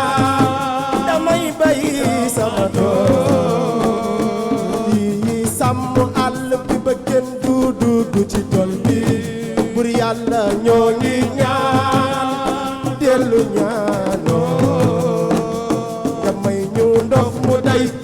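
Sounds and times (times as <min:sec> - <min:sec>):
fast hand drums: 0:00.0 - 0:18.0
person singing: 0:00.0 - 0:18.0.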